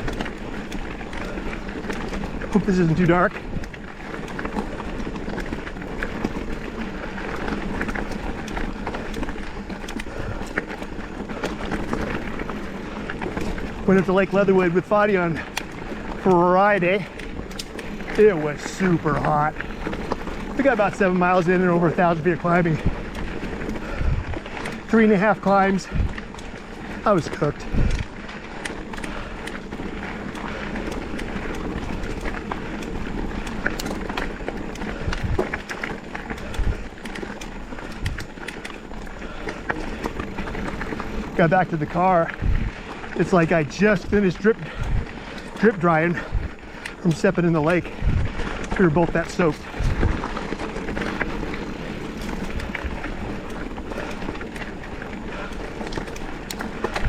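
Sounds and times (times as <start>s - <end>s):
bike clicks and rattles: 0.0s - 57.0s
bike tyres on dirt trail: 0.0s - 57.0s.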